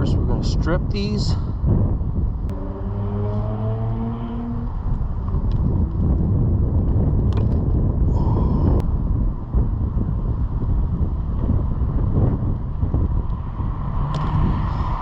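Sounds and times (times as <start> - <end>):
traffic rumble: 0.0 - 15.0
wind on microphone: 0.0 - 15.0
pitched engine hum: 1.7 - 15.0.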